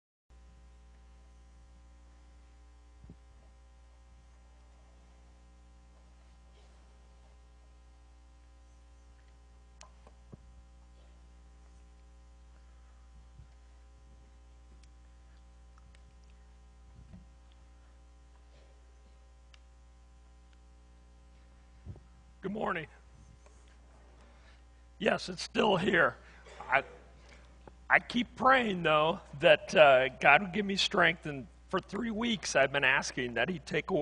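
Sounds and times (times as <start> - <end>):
electrical mains hum: 0.3 - 34.0.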